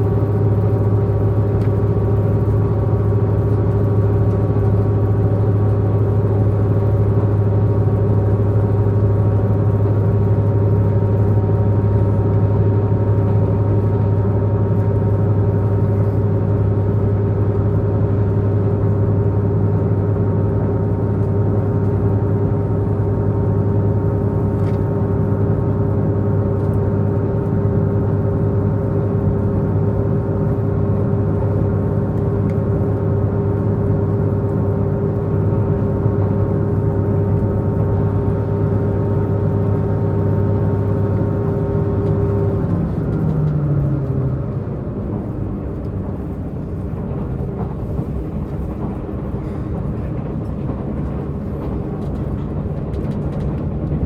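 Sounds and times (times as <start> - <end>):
train diesel engine drone: 0.0 - 54.0.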